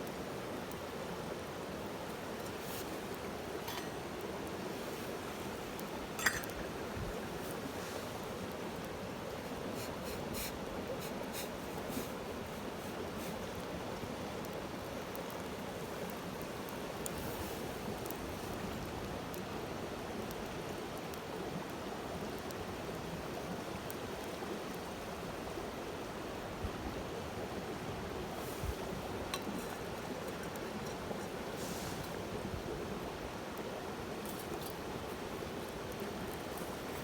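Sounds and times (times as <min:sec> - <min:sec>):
rushing flowing water noise: 0:00.0 - 0:37.0.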